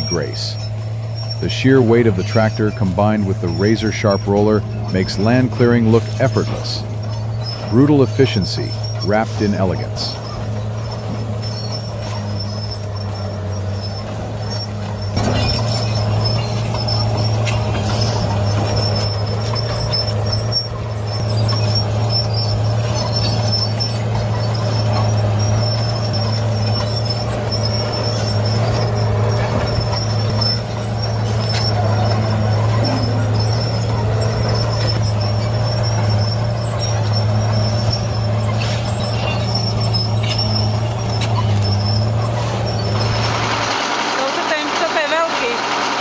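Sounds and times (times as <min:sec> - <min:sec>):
diesel engine droning under load: 0:00.0 - 0:46.0
high-pitched squeal: 0:00.0 - 0:46.0.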